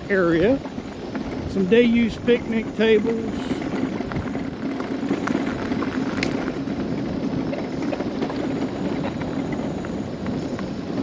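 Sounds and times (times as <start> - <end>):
tyres crunching on gravel: 0.0 - 11.0.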